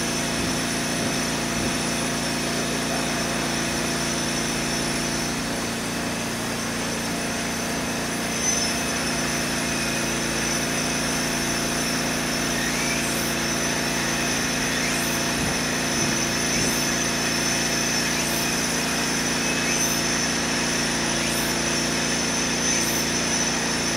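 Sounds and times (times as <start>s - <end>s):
machine hum: 0.0s - 23.9s.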